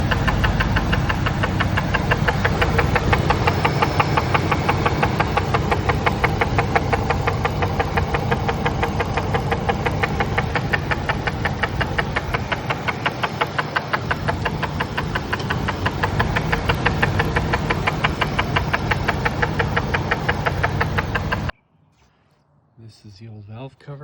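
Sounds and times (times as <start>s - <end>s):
engine idling with rapid knocking: 0.0s - 21.5s.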